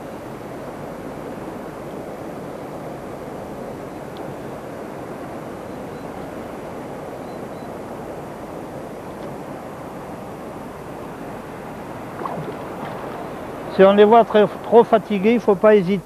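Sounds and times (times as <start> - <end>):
river current rushing: 0.0 - 15.6.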